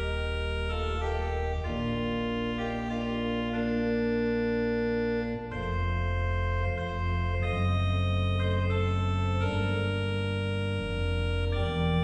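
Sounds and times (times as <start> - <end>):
organ-like keyboard chords: 0.0 - 12.0
steady bass: 0.0 - 12.0.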